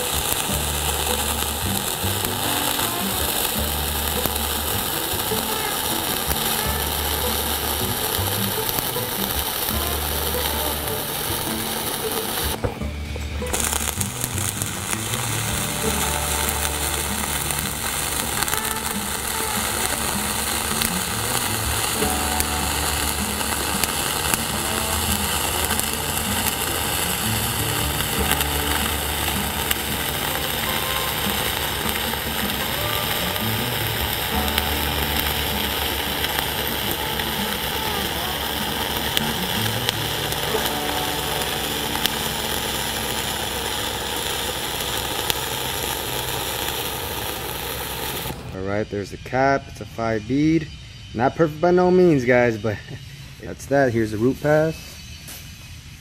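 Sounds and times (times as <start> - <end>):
welding arc crackling: 0.0 - 49.4.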